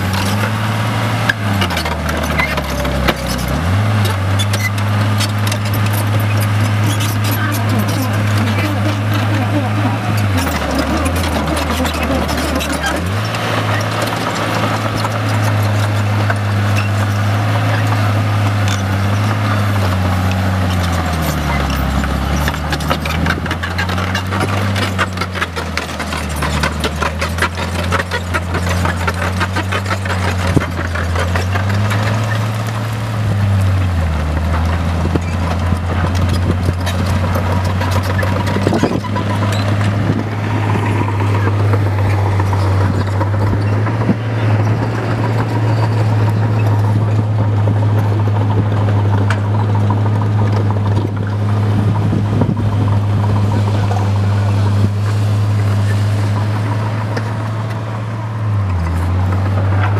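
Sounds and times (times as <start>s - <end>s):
bulldozer diesel engine: 0.0s - 59.9s
steel tracks clanking: 1.3s - 33.5s, 34.3s - 59.9s.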